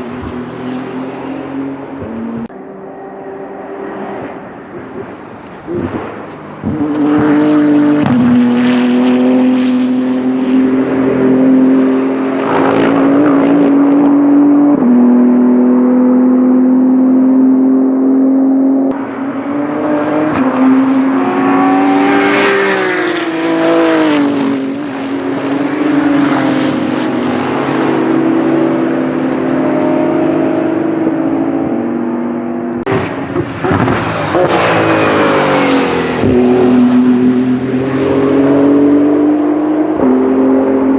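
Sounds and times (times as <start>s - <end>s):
race car engine at high revs: 0.0s - 40.9s.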